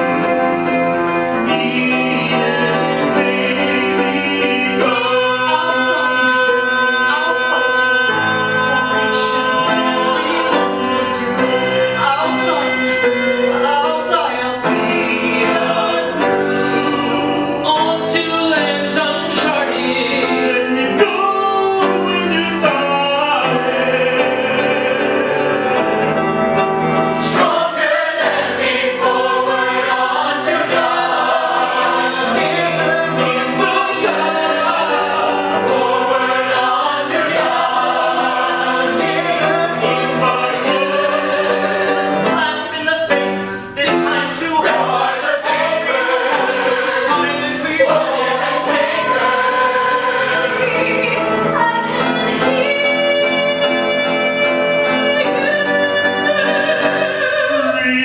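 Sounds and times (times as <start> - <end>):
ensemble singing in harmony: 0.0 - 58.0.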